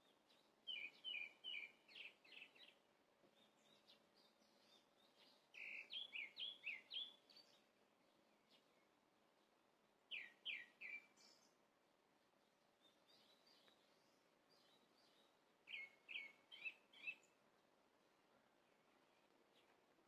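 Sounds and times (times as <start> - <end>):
faint bird song: 0.0 - 20.0.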